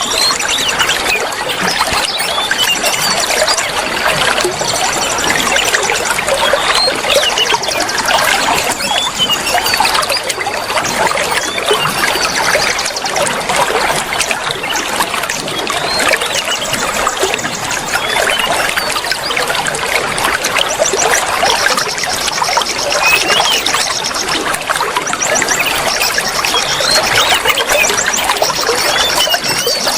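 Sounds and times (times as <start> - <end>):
small birds chirping and trilling: 0.0 - 29.9
water trickling: 0.0 - 29.9.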